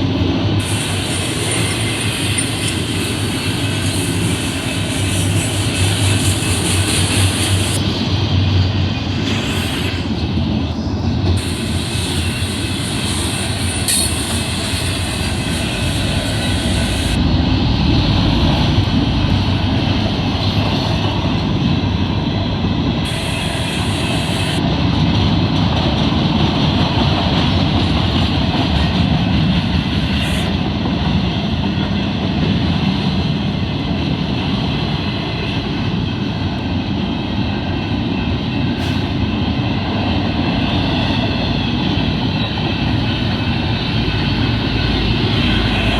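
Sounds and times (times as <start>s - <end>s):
freight train wheels on rail: 0.0s - 45.9s.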